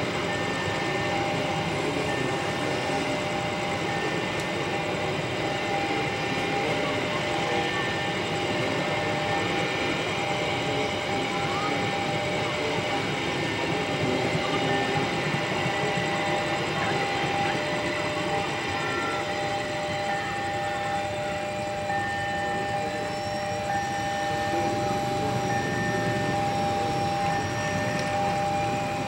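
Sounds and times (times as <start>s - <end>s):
higher tone: 0.0s - 29.0s
level crossing alarm tone: 0.0s - 29.0s
train wheels rumbling on rails: 0.0s - 29.0s.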